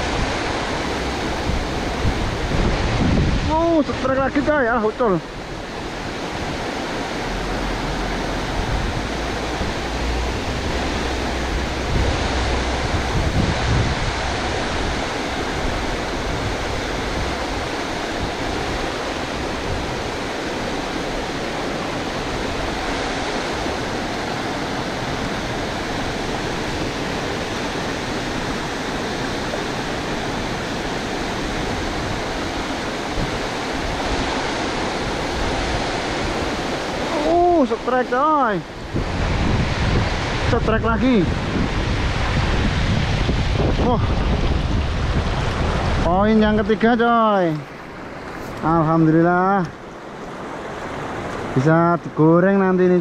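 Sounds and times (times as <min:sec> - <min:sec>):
wind buffeting microphone: 0:00.0 - 0:37.6, 0:38.5 - 0:51.6
water rushing over a weir: 0:00.0 - 0:53.0.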